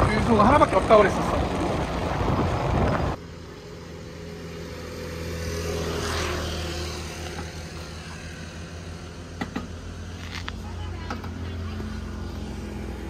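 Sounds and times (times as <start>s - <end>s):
vehicle engine running: 0.0s - 13.0s
vehicle passing close: 0.0s - 13.0s.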